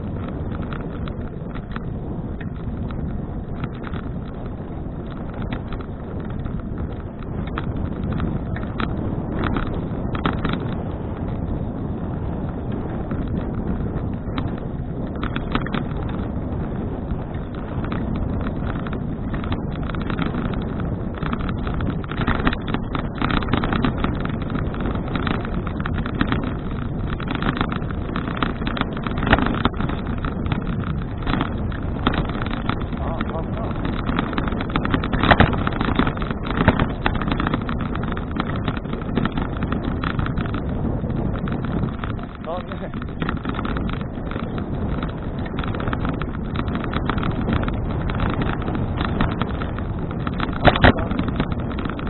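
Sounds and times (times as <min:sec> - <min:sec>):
bicycle tyre rumble: 0:00.0 - 0:52.0
bike clicks and rattles: 0:00.0 - 0:52.0
wind buffeting microphone: 0:00.0 - 0:52.0.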